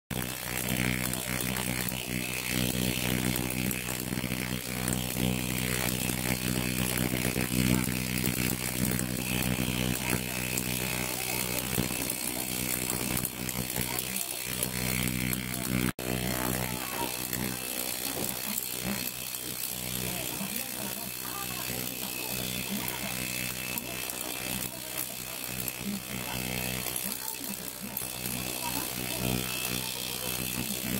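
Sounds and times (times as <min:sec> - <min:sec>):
ultrasonic cleaner buzzing: 0:00.1 - 0:30.9.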